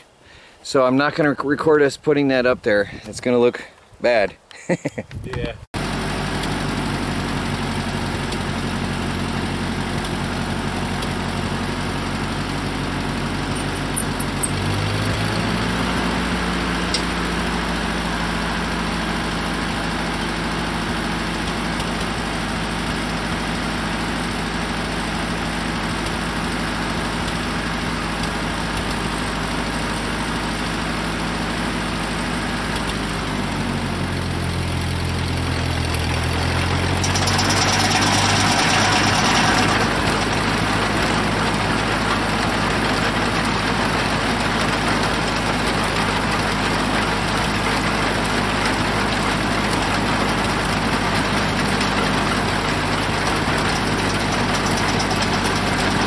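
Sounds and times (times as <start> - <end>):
sawmill engine running: 5.8 - 56.0.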